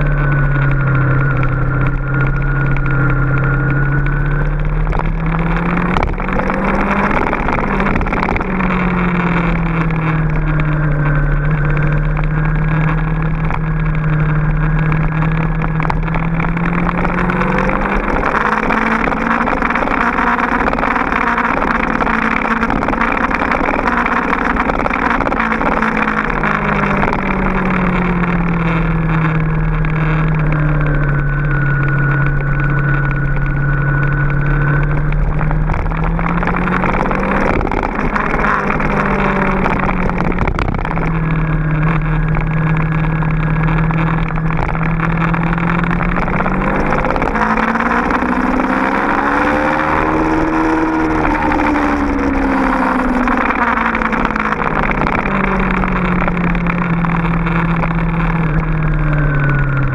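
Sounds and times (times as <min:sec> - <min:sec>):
motorcycle engine under load: 0:00.0 - 0:59.9.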